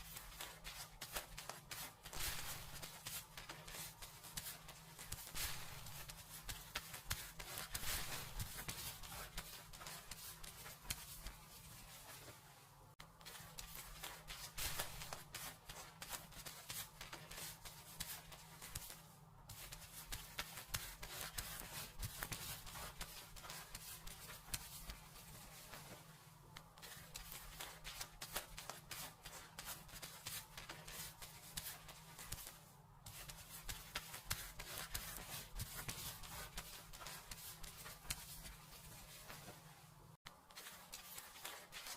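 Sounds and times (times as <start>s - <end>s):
fingers rubbing through hair: 0.0s - 12.5s, 13.2s - 39.8s, 40.4s - 41.9s.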